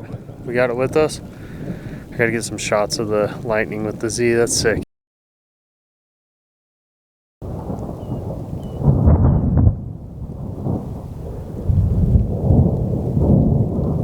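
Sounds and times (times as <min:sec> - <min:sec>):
rolling thunder: 0:00.0 - 0:04.8, 0:07.4 - 0:14.0.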